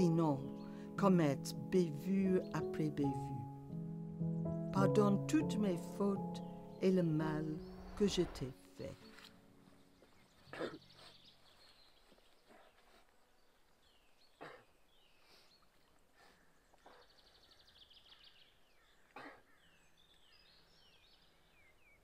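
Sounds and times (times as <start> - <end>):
faint birdsong chirps: 0.0 - 22.0.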